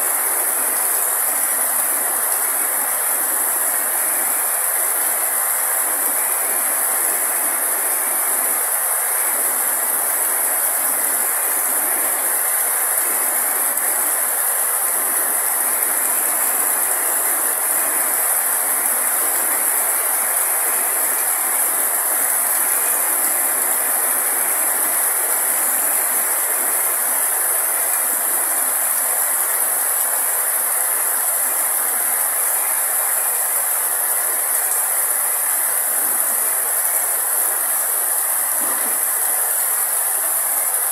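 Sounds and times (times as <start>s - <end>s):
heavy rain on grass and leaves: 0.0s - 40.9s.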